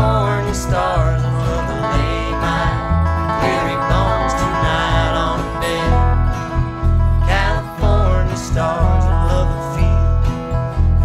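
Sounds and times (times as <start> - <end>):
acoustic guitar: 0.0 - 11.0
bass line: 0.0 - 11.0
live band playing country song: 0.0 - 11.0.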